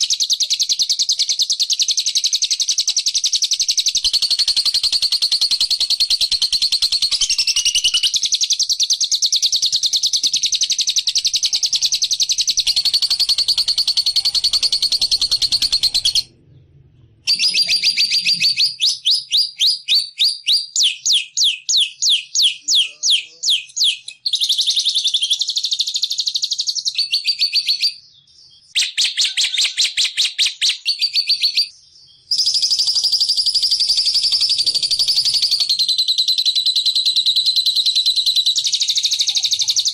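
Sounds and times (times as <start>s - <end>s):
recorded songbird trilling: 0.0s - 16.4s, 17.2s - 39.9s.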